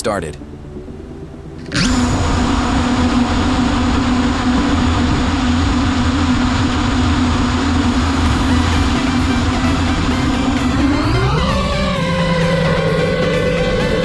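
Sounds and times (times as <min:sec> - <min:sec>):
drone motors buzzing: 0:00.0 - 0:14.0
rushing air: 0:00.0 - 0:14.0.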